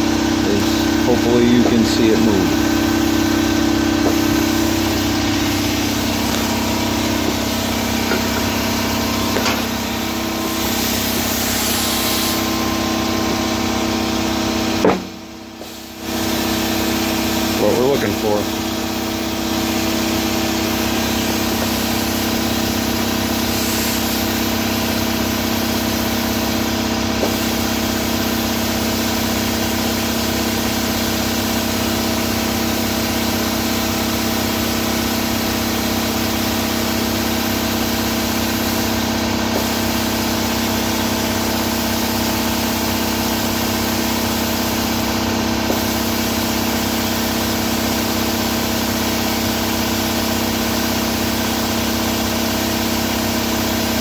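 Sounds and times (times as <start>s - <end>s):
air compressor humming: 0.0s - 54.0s.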